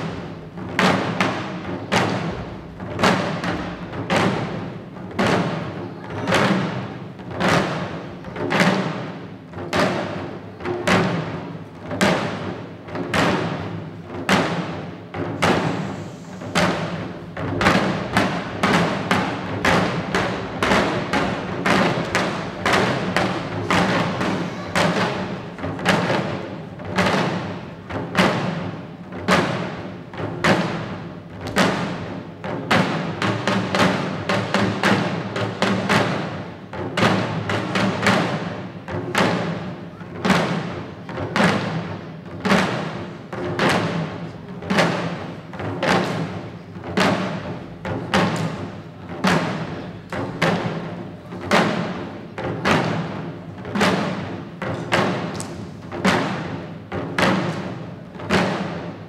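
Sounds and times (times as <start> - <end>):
drums beaten in steady rhythm: 0.0 - 59.0.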